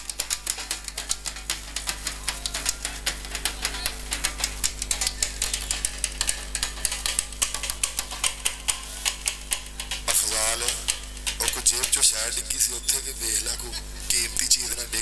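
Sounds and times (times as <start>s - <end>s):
sharp percussive clicks: 0.0s - 13.1s
low electrical hum: 0.0s - 15.0s.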